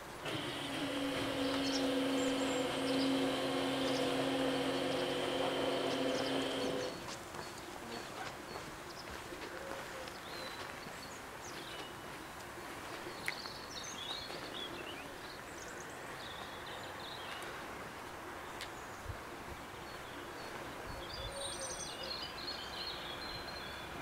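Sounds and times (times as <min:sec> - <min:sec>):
outdoor background noise: 0:00.0 - 0:24.0
songbirds chirping: 0:00.0 - 0:24.0.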